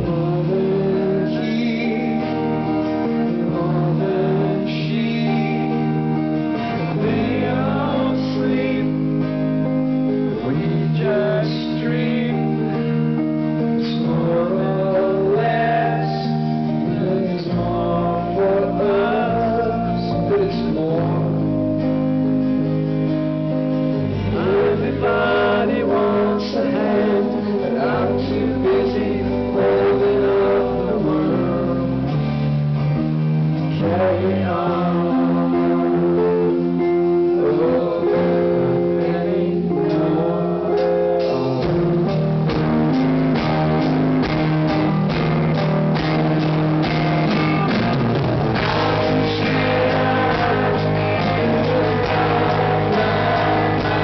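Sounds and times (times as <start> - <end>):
man singing: 0.0 - 21.9, 24.1 - 32.4, 33.6 - 42.3, 47.2 - 54.0
live rock band playing: 0.0 - 54.0.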